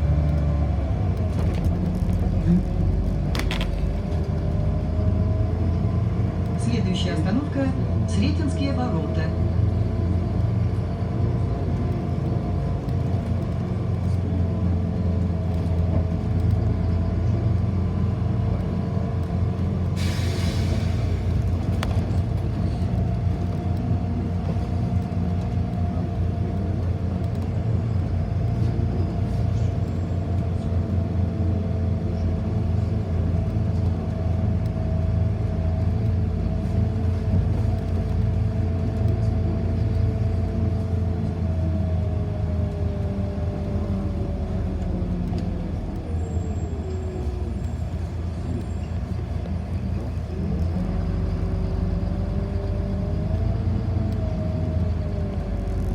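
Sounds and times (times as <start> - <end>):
bus rumble: 0.0 - 55.9
bus whine: 0.0 - 55.9.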